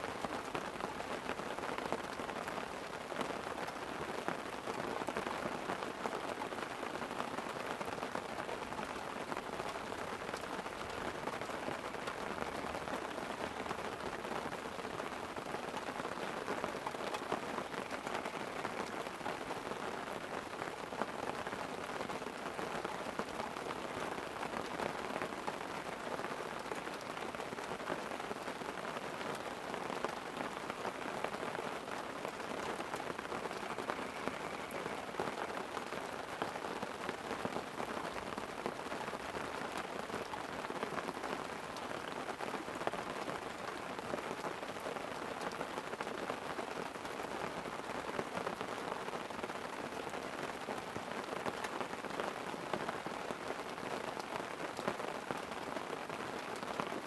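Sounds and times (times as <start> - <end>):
light rain on a tent: 0.0 - 57.0.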